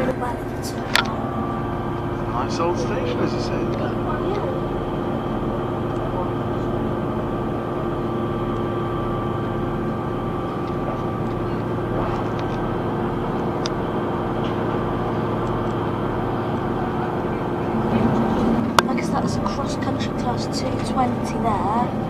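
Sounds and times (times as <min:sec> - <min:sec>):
diesel engine drone: 0:00.0 - 0:22.0
wheels rumbling on rail: 0:00.0 - 0:22.0.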